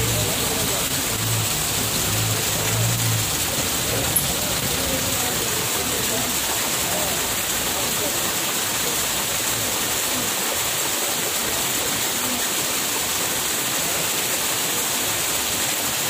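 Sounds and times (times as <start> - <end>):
floodwater rushing over ground: 0.0 - 16.0.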